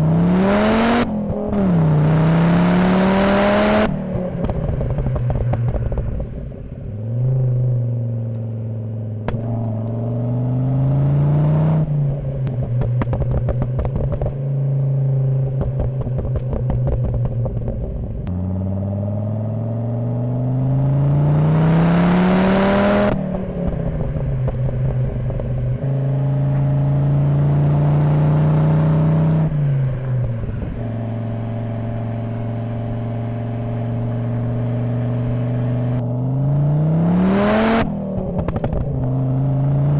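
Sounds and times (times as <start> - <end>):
exhaust crackle and clatter: 0.0 - 10.5, 11.8 - 39.9
car engine revving: 0.0 - 39.9.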